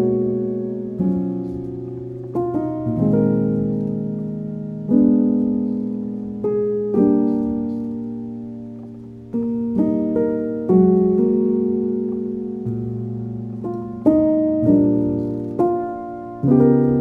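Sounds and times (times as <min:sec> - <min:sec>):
slow solo piano music: 0:00.0 - 0:17.0.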